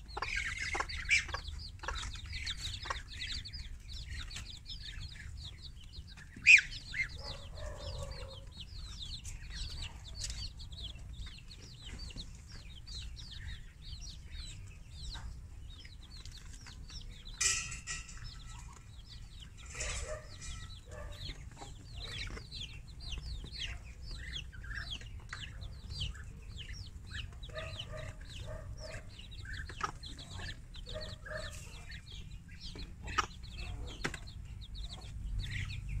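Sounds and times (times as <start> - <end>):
chicks peeping: 0.0 - 36.0
hen clucking: 0.0 - 36.0.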